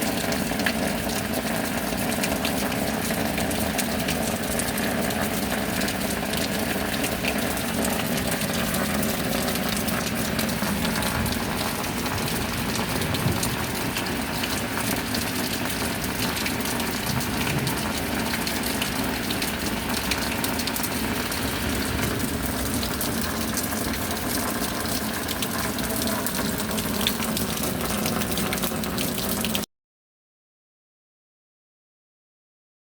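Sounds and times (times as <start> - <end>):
steady rain: 0.0 - 29.7.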